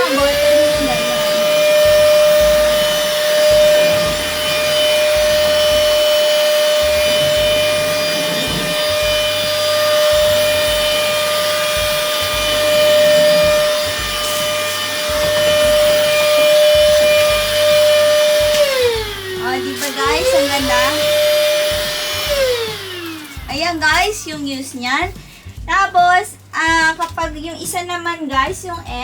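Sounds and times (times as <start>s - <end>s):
handheld vacuum cleaner whine: 0.0s - 24.4s
vacuum nozzle rubbing surface: 0.0s - 24.5s.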